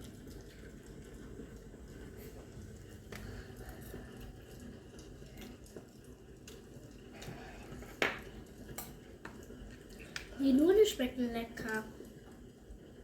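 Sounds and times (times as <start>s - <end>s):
quiet eating sounds: 0.0s - 13.0s.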